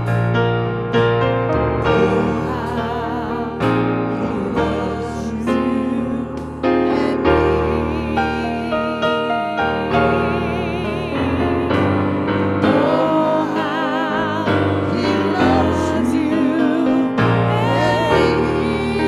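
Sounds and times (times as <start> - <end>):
organ and keyboard chords: 0.0 - 19.0
person singing gospel: 1.8 - 19.0.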